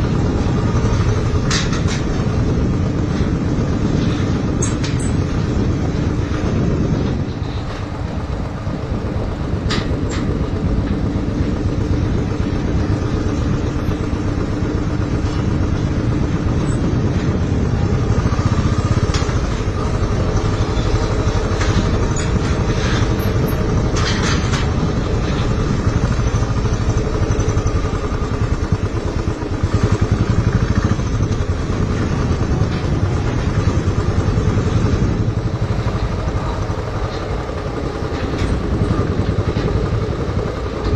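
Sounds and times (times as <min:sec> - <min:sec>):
motorcycle engine rumble: 0:00.0 - 0:40.9.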